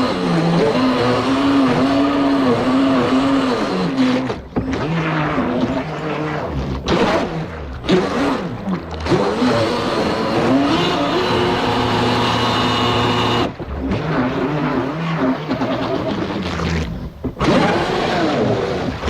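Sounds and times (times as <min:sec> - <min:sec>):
model boat motor running: 0:00.0 - 0:19.0.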